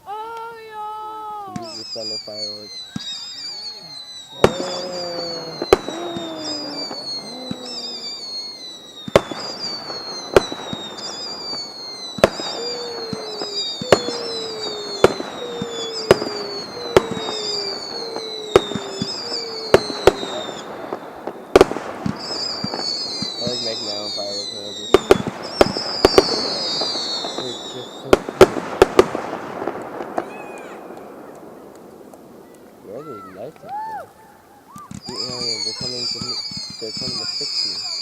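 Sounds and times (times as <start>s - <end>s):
falling high whistling tone: 1.3s - 28.4s, 32.5s - 38.0s
distant fireworks bangs: 1.4s - 33.8s, 34.6s - 38.0s.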